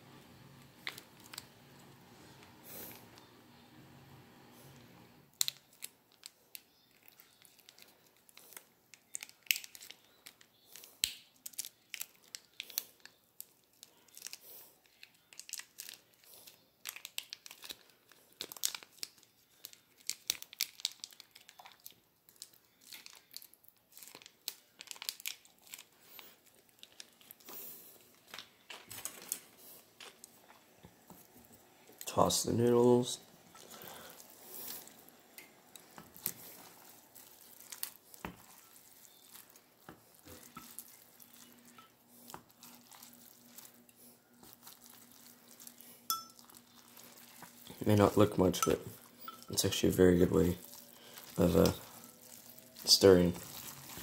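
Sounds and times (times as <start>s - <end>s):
plastic sachet crinkling: 0.6s - 3.3s, 5.3s - 54.0s.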